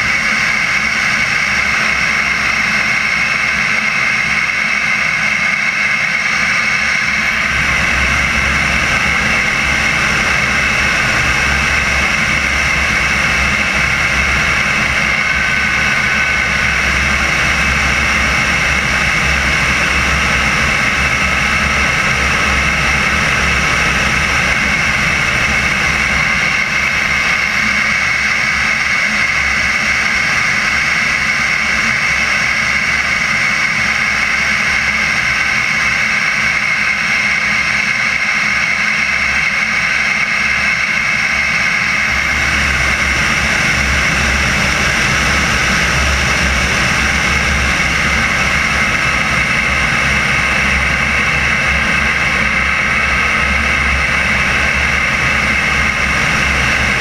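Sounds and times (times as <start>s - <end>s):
model jet turbine engine whine: 0.0s - 57.0s.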